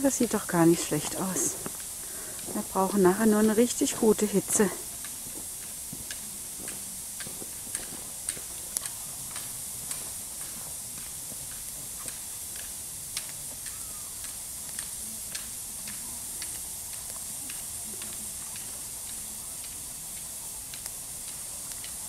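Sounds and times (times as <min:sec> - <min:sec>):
campfire crackling and popping: 0:00.0 - 0:22.0
steady fire hiss: 0:00.0 - 0:22.0.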